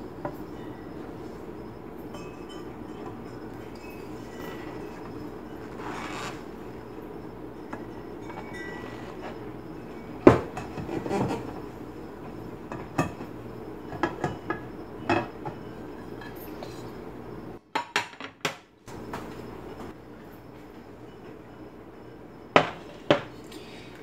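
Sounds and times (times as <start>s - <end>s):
steady low hum: 0.0s - 17.6s, 18.9s - 24.0s.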